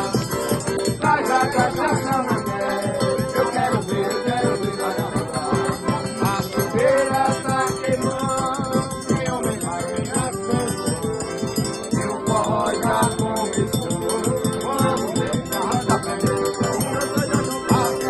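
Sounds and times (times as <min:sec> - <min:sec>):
accordion playing a tune: 0:00.0 - 0:18.0.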